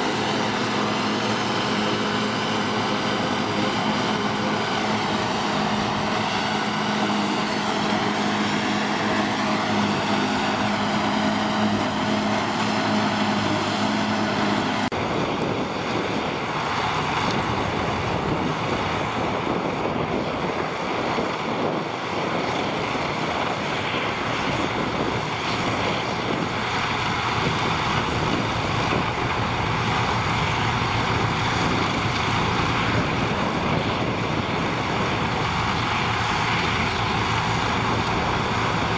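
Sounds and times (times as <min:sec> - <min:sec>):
high whine of harvester: 0:00.0 - 0:38.9
tractor engines running: 0:00.0 - 0:38.9.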